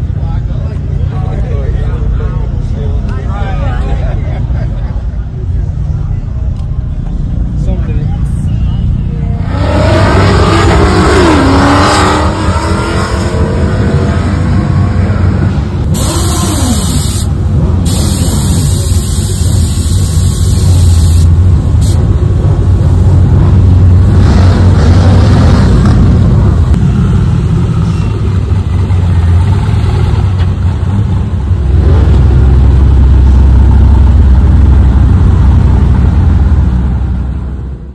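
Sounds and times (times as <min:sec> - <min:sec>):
pickup truck engines passing: 0:00.0 - 0:37.9.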